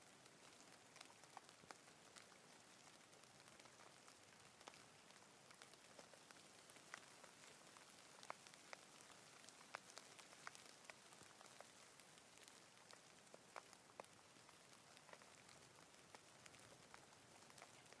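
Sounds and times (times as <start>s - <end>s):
rain hiss: 0.0s - 18.0s
raindrops tapping: 0.0s - 18.0s.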